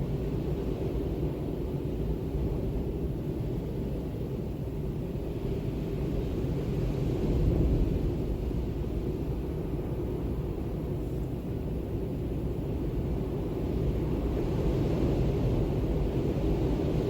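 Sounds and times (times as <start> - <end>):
low rumbling wind: 0.0 - 17.0.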